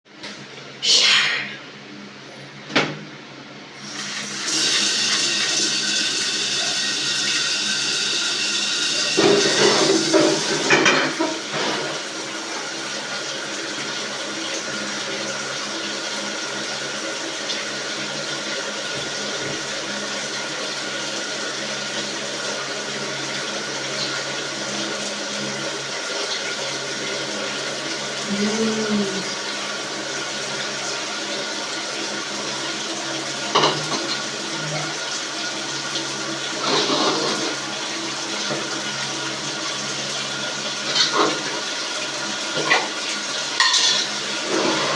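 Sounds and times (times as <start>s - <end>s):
dishwasher pump hum: 0.1s - 44.9s
dishwasher water rushing: 2.6s - 44.9s.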